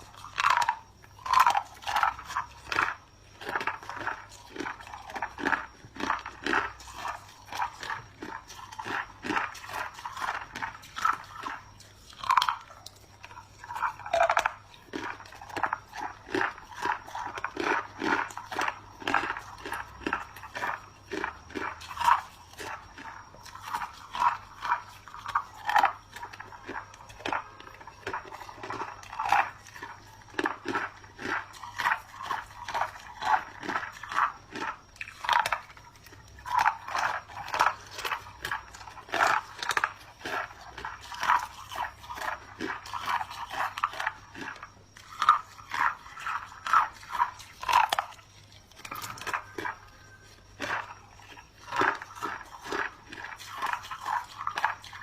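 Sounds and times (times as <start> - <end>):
ice being chewed crunching: 0.0 - 55.0.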